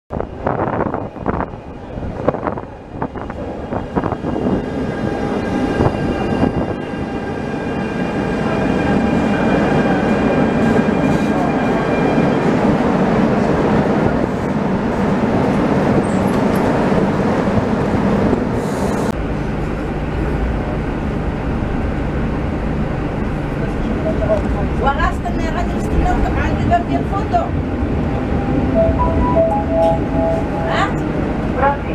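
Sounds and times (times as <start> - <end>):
low rumble inside train car: 0.1 - 7.4, 12.4 - 31.9
wheels rumbling on rail: 0.1 - 31.9.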